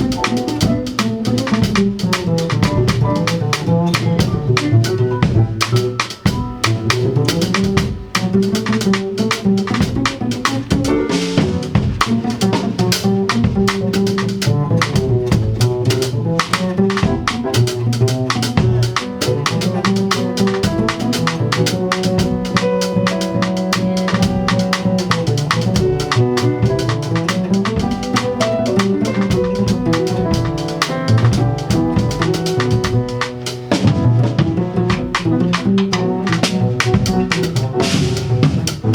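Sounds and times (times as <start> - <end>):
bass line: 0.0 - 38.9
drum kit beat: 0.0 - 38.9.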